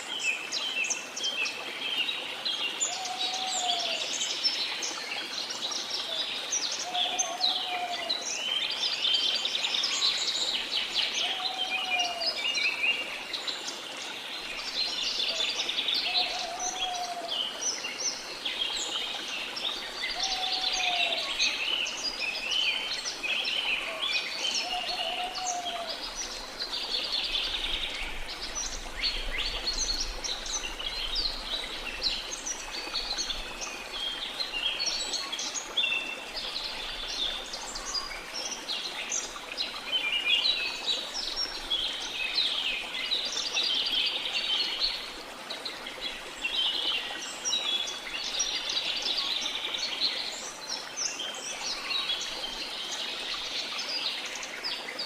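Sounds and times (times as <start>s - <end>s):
many birds chirping and trilling: 0.0s - 55.0s.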